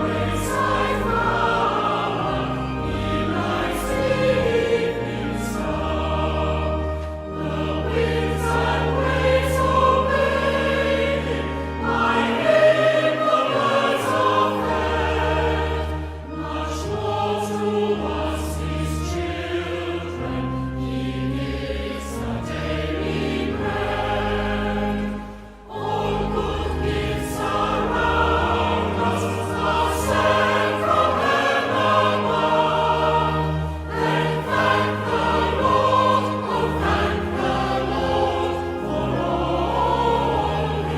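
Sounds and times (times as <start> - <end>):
choir singing a hymn: 0.0 - 40.9
low sustained accompaniment: 0.0 - 40.9.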